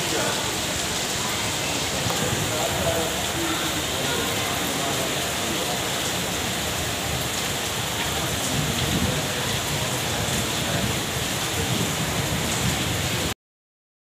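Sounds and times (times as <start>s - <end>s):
heavy rain on paving and grass: 0.0s - 13.4s.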